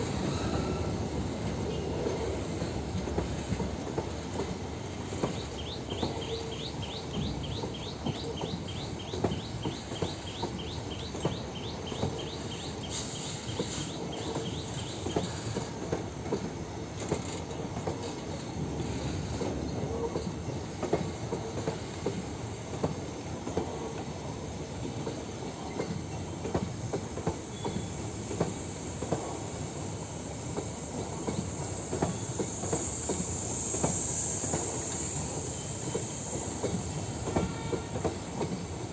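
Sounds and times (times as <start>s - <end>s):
hiss: 0.0s - 6.9s, 7.5s - 38.9s
train wheels clattering over rail joints: 0.0s - 38.9s.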